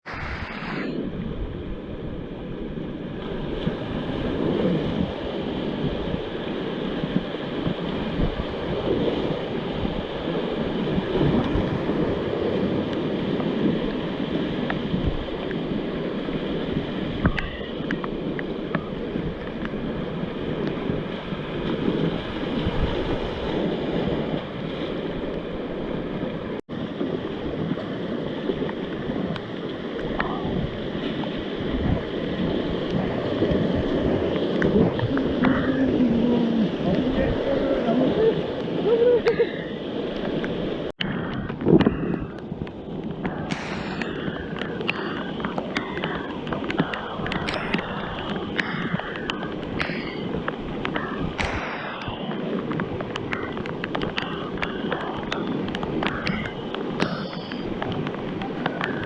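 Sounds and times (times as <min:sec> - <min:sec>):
flood water rushing: 0:02.9 - 0:59.0.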